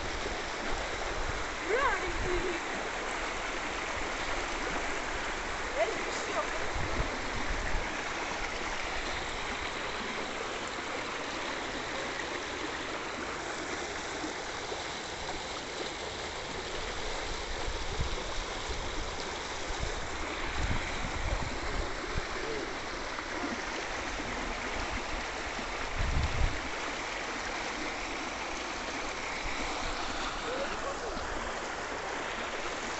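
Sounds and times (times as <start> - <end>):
floodwater rushing: 0.0 - 32.9.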